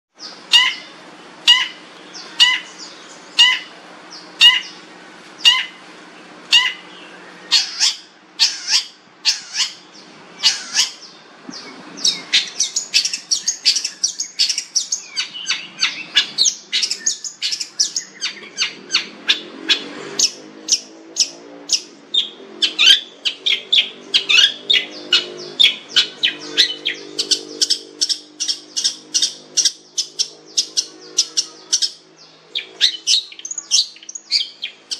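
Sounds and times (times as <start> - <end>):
shrike harsh calls and chattering: 0.2 - 34.9.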